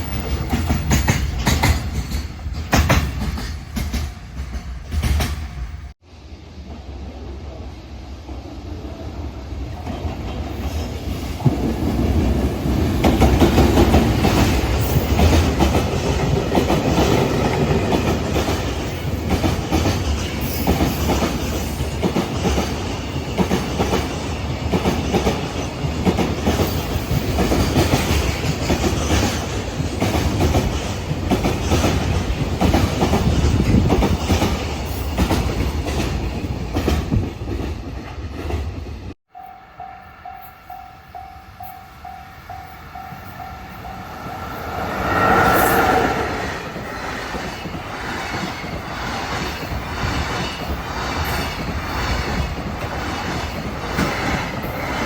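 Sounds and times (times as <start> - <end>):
train wheels clattering over rails: 0.0 - 5.9, 9.8 - 38.8, 43.1 - 55.0.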